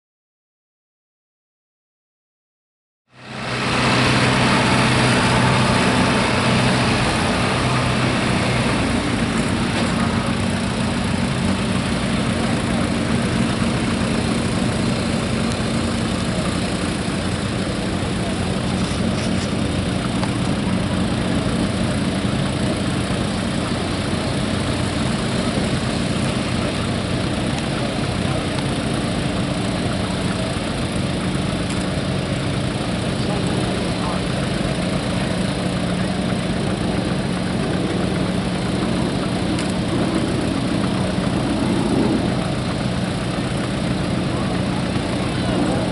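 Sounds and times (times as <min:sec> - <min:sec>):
tractor engine running: 0:03.1 - 0:45.9.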